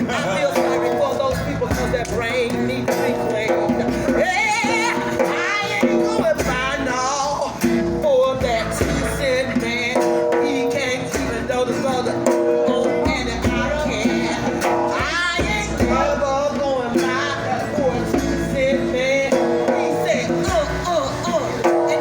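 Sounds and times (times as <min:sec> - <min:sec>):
person singing: 0:00.0 - 0:22.0.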